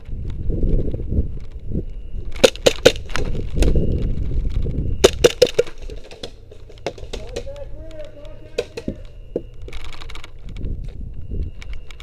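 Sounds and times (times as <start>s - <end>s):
sharp wooden cracks: 0.0s - 10.7s.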